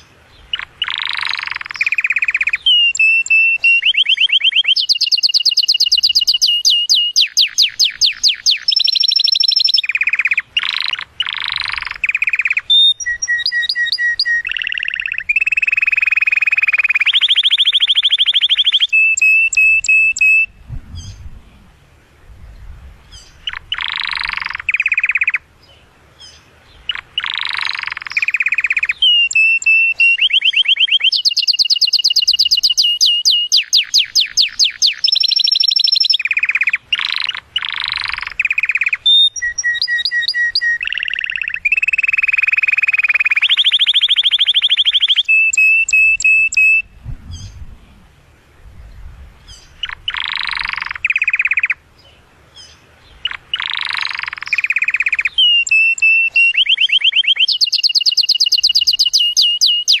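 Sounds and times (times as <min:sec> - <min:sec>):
canary singing trills: 0:00.0 - 0:21.2, 0:23.0 - 0:47.6, 0:49.4 - 1:00.0.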